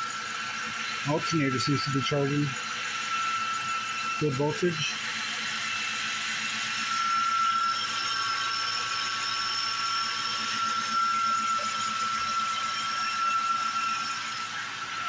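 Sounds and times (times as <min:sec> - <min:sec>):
steady high whine: 0:00.0 - 0:15.0.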